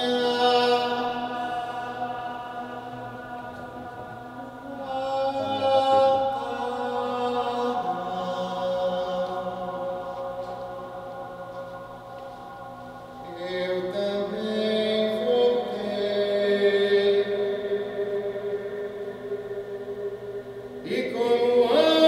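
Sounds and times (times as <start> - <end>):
droning chant-like music: 0.0 - 22.0.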